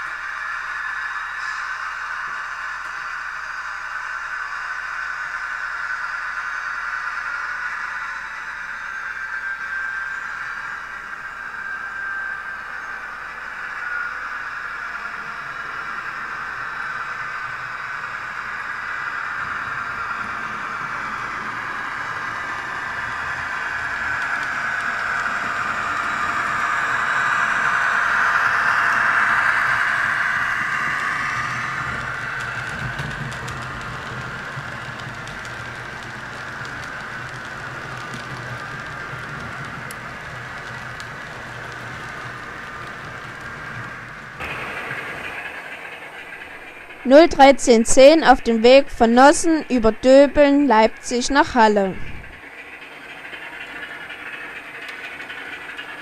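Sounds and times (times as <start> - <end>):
model trains whirring on track: 0.0 - 56.0.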